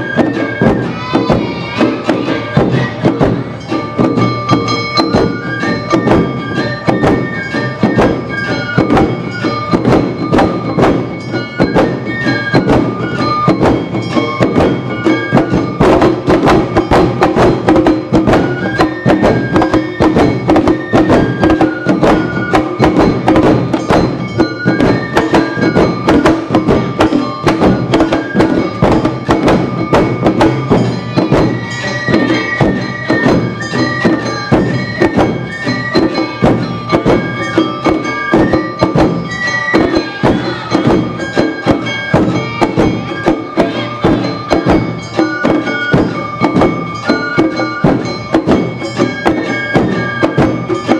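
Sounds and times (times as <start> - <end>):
bamboo flute melody: 0.0 - 50.9
fast drum strikes: 0.0 - 50.9.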